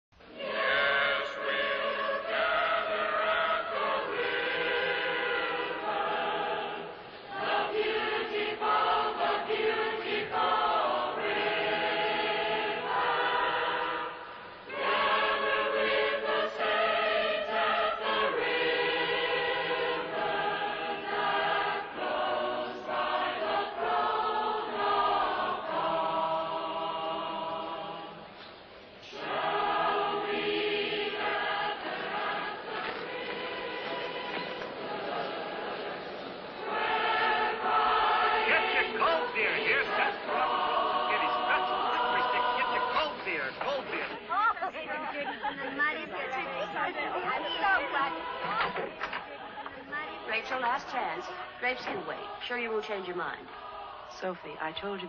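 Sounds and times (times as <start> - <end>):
choir singing: 0.2 - 55.0.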